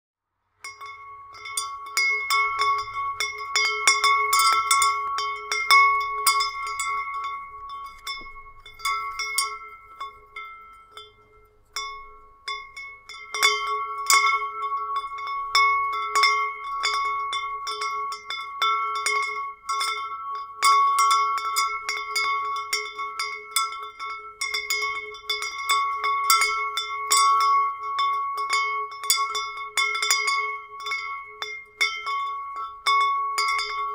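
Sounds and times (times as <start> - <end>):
wind chimes ringing: 0.6 - 33.9.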